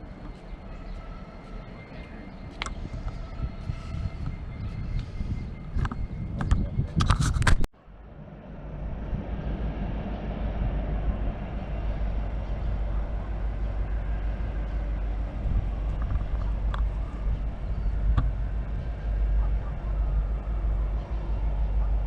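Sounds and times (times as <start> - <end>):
passing train rumble: 0.0 - 7.0, 7.8 - 22.0.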